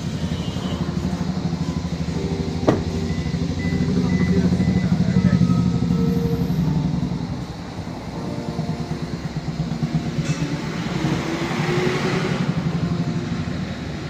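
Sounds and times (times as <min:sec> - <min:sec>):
vehicle engines droning: 0:00.0 - 0:14.0.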